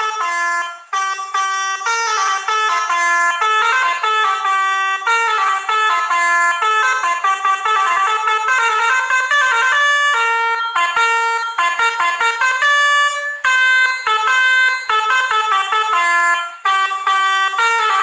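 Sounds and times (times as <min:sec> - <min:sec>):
multi-tone bus horn melody: 0:00.0 - 0:18.0.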